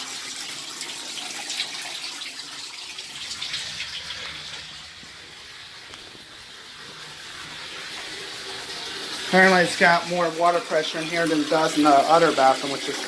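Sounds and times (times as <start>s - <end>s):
water gushing into bathtub: 0.0s - 13.0s.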